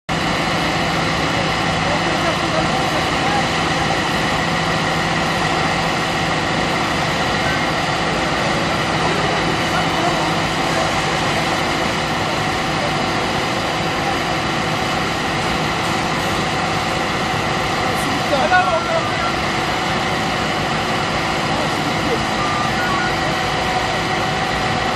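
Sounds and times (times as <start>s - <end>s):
heavy engine idling: 0.1s - 24.9s.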